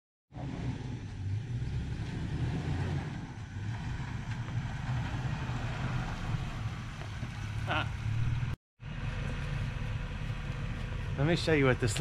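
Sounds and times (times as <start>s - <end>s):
pickup truck engine rumbling: 0.3s - 12.0s.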